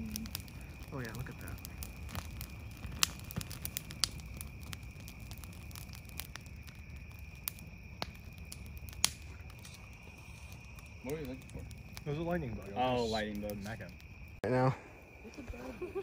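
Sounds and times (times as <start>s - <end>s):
bonfire crackling: 0.0s - 16.0s
fire popping: 0.0s - 16.0s.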